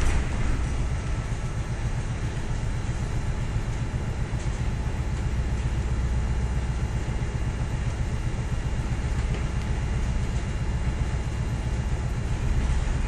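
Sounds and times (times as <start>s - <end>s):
ship engine low rumble: 0.0s - 13.0s.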